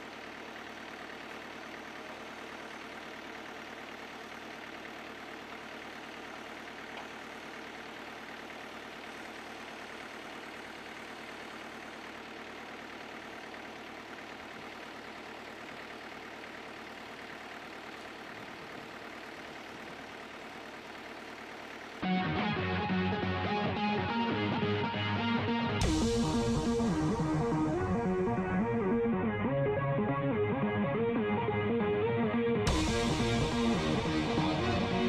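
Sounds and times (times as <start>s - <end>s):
snow clearing machine engine: 0.0s - 31.9s, 32.6s - 35.0s.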